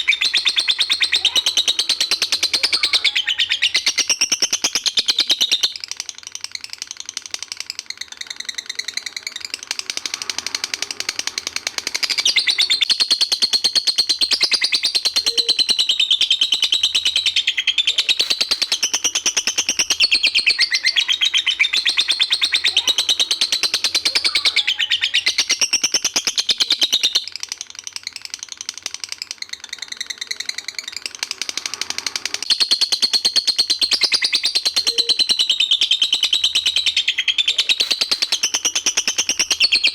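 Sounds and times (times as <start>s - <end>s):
songbird rapid chatter: 0.0s - 39.9s.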